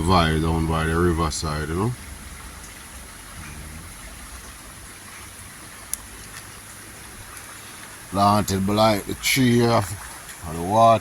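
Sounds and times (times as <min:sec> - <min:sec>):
faint low hum: 0:00.0 - 0:11.0
river water flowing: 0:00.0 - 0:11.0.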